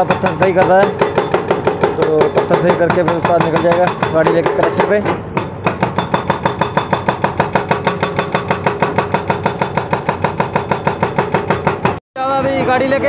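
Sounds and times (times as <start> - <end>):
hydraulic breaker hammering rock: 0.0 - 12.0.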